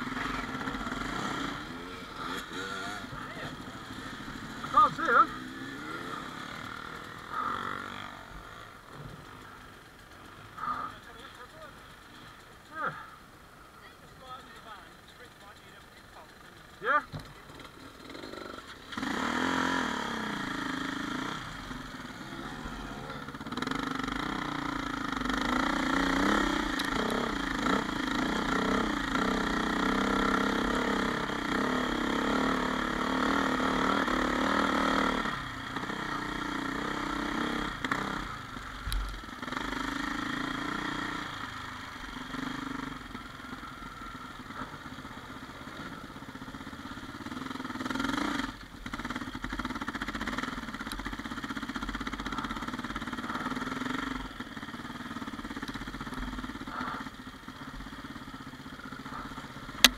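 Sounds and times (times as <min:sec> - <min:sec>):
dirt bike engine revving: 0:00.0 - 0:13.2, 0:16.3 - 0:59.9.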